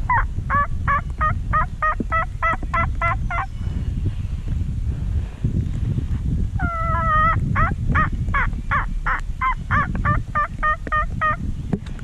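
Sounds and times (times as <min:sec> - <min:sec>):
low rumble of wind: 0:00.0 - 0:12.0.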